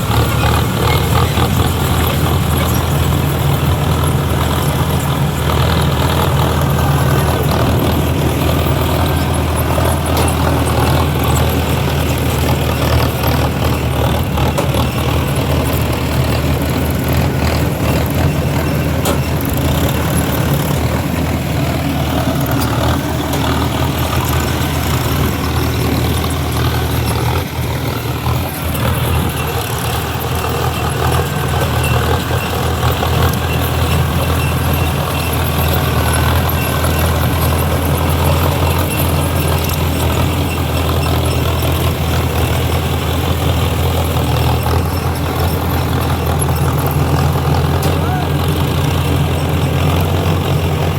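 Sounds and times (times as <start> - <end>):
tractor diesel engine throbbing: 0.0 - 50.9.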